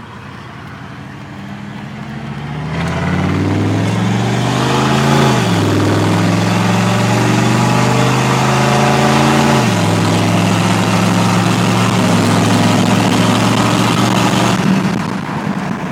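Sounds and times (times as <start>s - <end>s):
diesel truck engine running: 0.0s - 15.9s.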